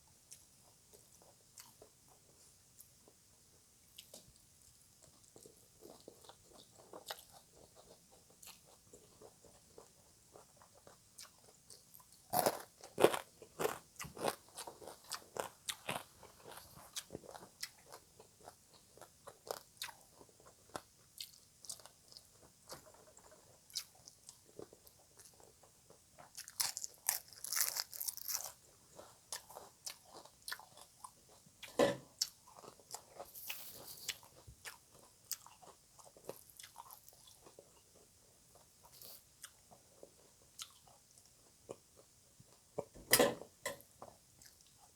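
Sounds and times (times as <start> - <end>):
chewing and crunching: 0.3 - 3.2, 3.9 - 42.9.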